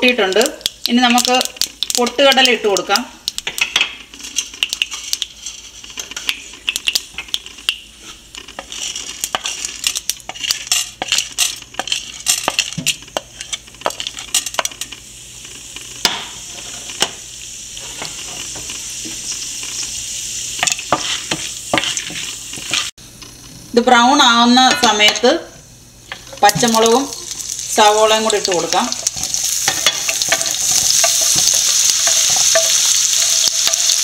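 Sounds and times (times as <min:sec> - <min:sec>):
oil sizzling in a frying pan: 0:00.0 - 0:23.0, 0:23.8 - 0:34.0
seeds popping in hot oil: 0:00.0 - 0:23.4, 0:26.0 - 0:34.0.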